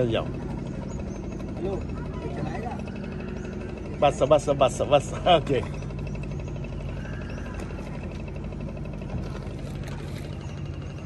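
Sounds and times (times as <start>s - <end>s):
motor boat engine droning: 0.0s - 11.0s.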